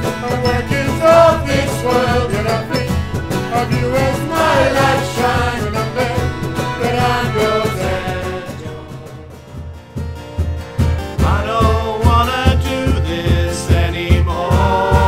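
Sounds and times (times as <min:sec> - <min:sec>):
choir singing: 0:00.0 - 0:09.6, 0:11.2 - 0:15.0
instrumental accompaniment: 0:00.0 - 0:15.0
steady low beat: 0:00.0 - 0:15.0.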